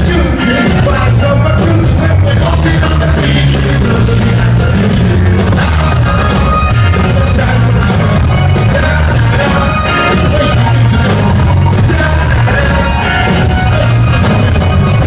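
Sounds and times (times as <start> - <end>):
drums: 0.0 - 15.0
heavy bass: 0.0 - 15.0
live band music: 0.0 - 15.0
person singing: 0.0 - 15.0.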